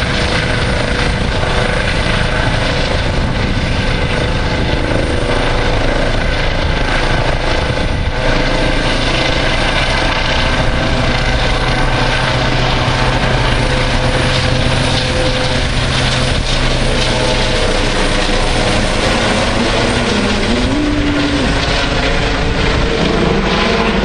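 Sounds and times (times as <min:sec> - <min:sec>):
helicopter flying overhead: 0:00.0 - 0:24.0.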